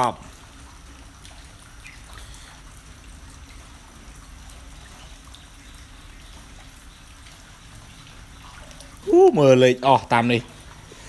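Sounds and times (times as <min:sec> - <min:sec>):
low steady noise: 0:00.0 - 0:11.0
shallow water trickling: 0:00.0 - 0:11.0.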